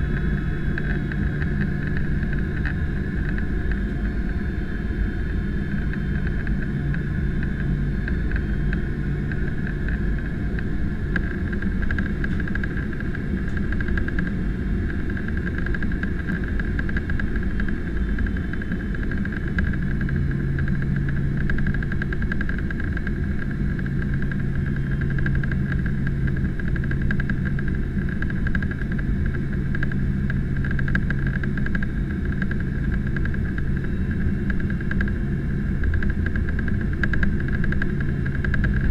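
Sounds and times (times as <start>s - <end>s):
high whine: 0.0s - 38.9s
jet engine roar and rushing air: 0.0s - 38.9s
low hum: 0.0s - 38.9s.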